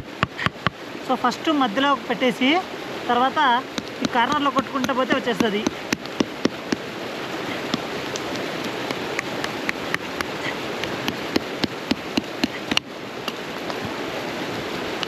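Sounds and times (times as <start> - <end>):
campfire crackling and hissing: 0.0 - 15.0.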